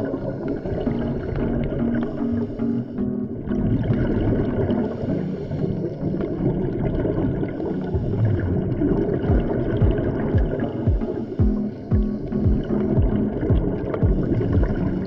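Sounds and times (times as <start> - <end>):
boat engine hum: 0.0 - 15.0
muffled water noise: 0.0 - 15.0.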